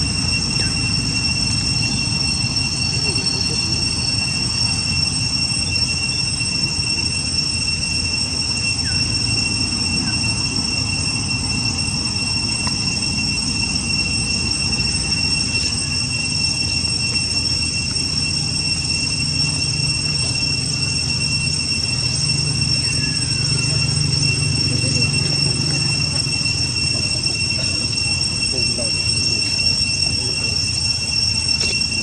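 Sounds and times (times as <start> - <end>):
high-pitched whine: 0.0 - 32.0.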